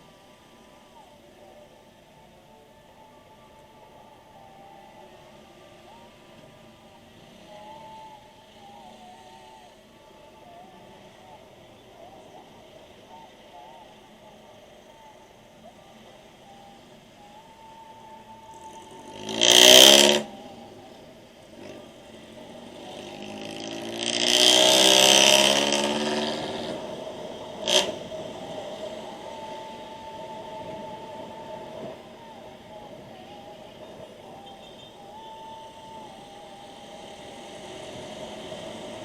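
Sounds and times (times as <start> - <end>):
vehicles passing by: 0.0 - 39.0.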